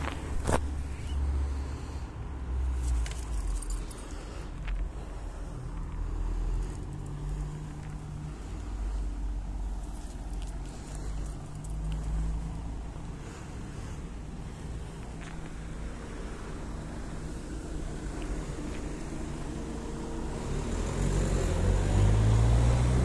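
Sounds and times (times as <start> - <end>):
car traffic rumble: 0.0 - 23.0.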